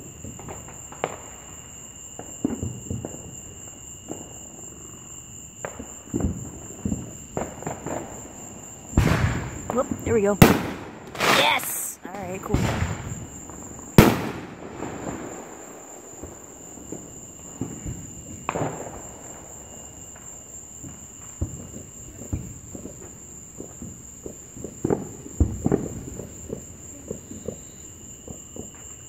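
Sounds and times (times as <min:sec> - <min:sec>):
fireworks bangs and pops: 0:00.0 - 0:29.0
high insect trill: 0:00.0 - 0:29.0.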